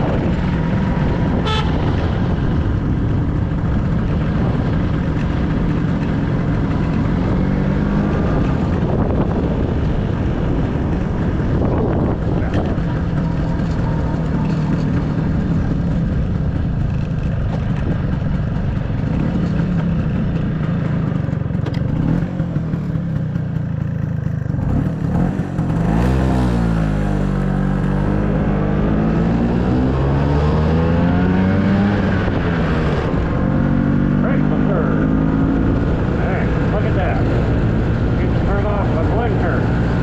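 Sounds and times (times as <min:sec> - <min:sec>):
scooter engine running: 0:00.0 - 0:40.0.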